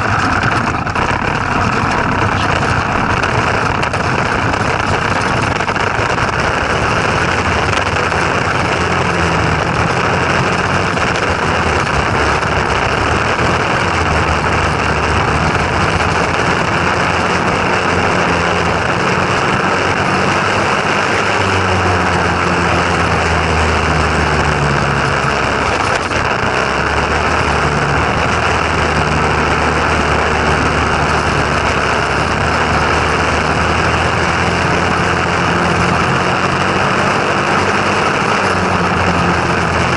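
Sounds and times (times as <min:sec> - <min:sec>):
loud rushing noise: 0:00.0 - 0:39.9
small engine running: 0:00.0 - 0:39.9.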